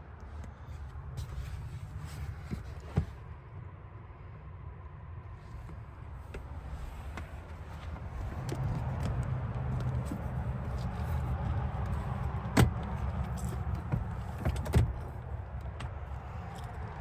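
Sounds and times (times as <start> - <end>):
road and engine rumble in car cabin: 0.0 - 17.0.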